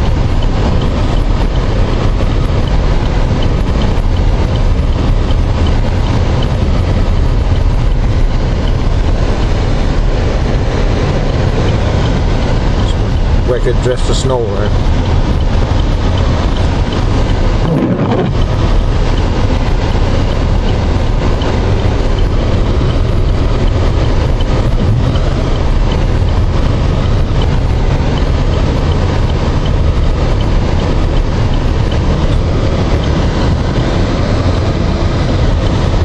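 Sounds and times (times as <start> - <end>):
road noise: 0.0 - 36.0
vehicle engine: 0.0 - 36.0.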